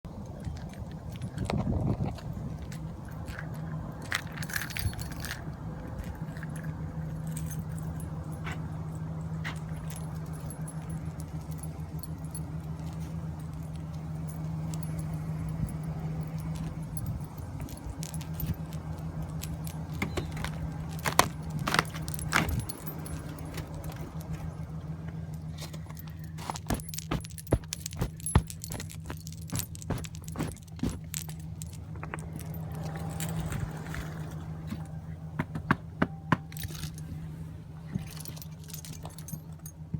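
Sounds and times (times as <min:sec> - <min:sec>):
car engine idling: 0:00.1 - 0:39.9
engine clicks and rattles: 0:00.1 - 0:39.9.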